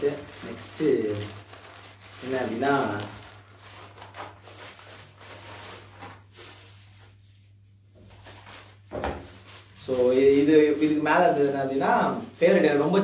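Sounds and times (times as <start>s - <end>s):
paper rustling and tearing: 0.0s - 13.0s.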